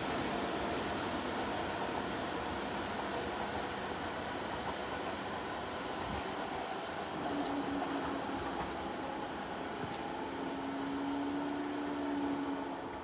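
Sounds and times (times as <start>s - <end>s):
train rumbling away: 0.0s - 13.0s.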